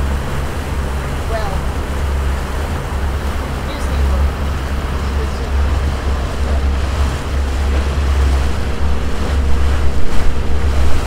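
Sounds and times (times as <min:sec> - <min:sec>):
boat engine drone: 0:00.0 - 0:11.0
water rushing along hull: 0:00.0 - 0:11.0
wind buffeting microphone: 0:00.0 - 0:11.0.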